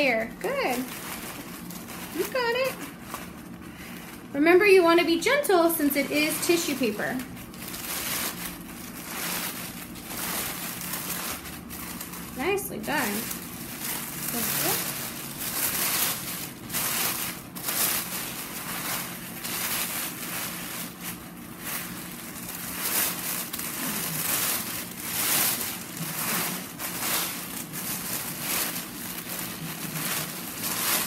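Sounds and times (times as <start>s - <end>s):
steady low hum: 0.0s - 31.0s
tissue paper rustling and crinkling: 0.0s - 31.0s.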